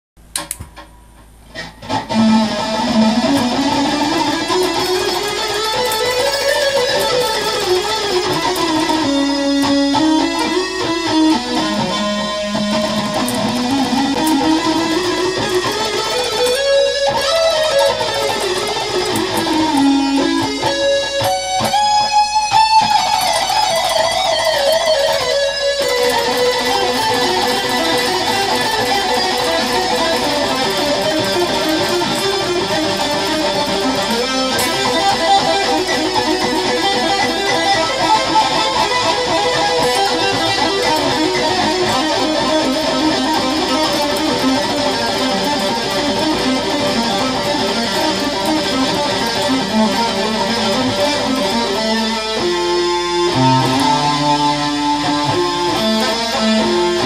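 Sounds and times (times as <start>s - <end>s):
soft guitar string clicks: 0.3s - 57.0s
electric guitar runs: 1.6s - 57.0s.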